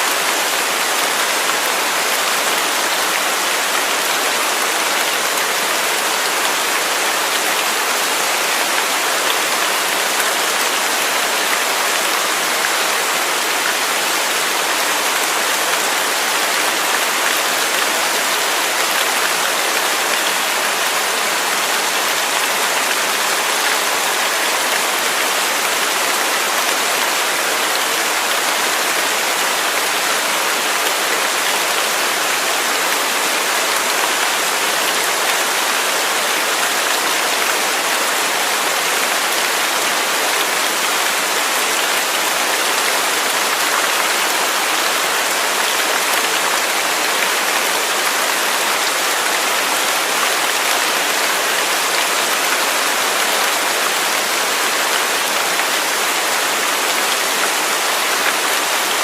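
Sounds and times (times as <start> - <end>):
waterfall rushing and splashing: 0.0 - 59.0.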